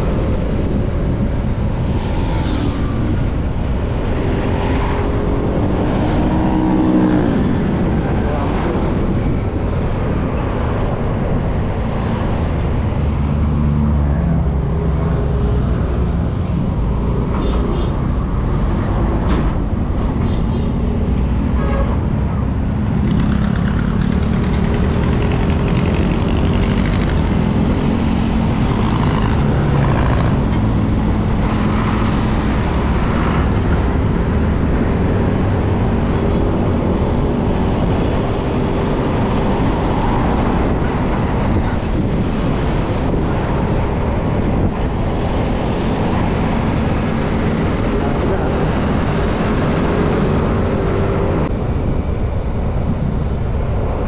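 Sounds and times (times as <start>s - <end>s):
passing traffic: 0.0s - 54.0s
wind rushing over microphone: 0.0s - 54.0s.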